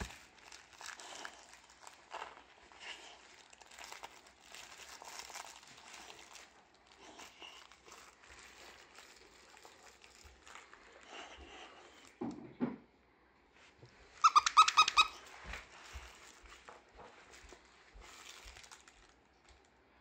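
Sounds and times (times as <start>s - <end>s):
fabric crinkling and rustling: 0.0s - 12.2s, 15.2s - 19.8s.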